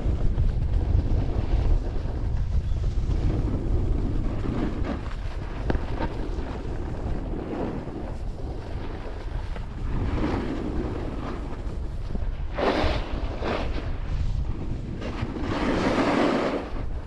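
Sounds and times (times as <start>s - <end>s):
snowboard edge scraping snow: 0.0s - 17.0s
wind buffeting microphone: 0.0s - 17.0s.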